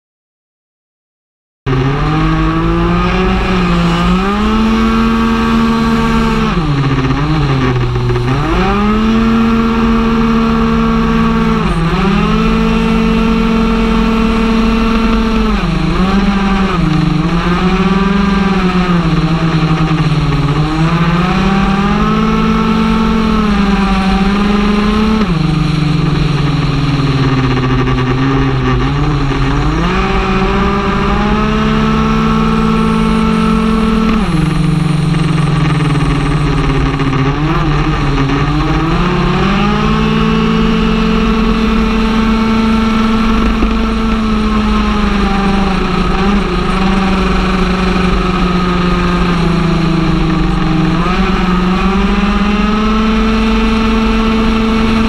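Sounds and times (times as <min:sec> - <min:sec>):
scooter engine at full throttle: 0:01.7 - 0:55.0.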